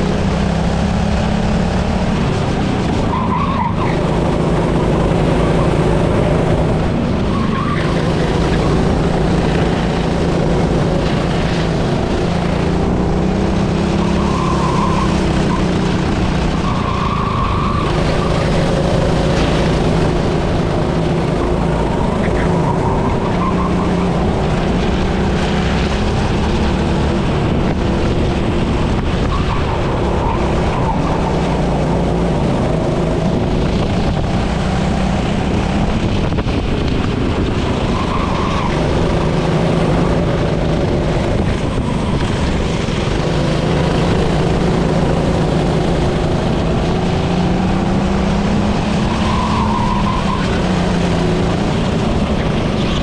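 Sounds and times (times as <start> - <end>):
racing engine running hard: 0.0 - 53.0.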